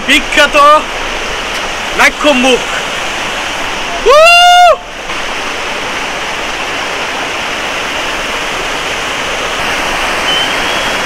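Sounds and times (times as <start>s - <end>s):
stream water rushing over rocks: 0.0s - 11.0s.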